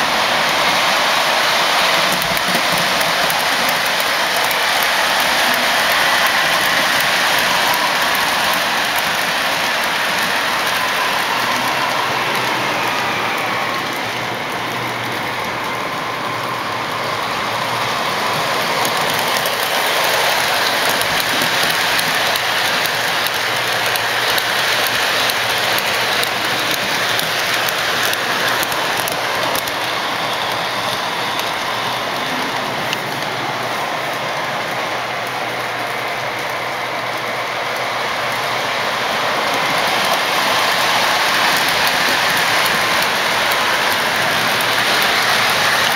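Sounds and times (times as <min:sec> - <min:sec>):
model train wheels rattling on rails: 0:00.0 - 0:45.9.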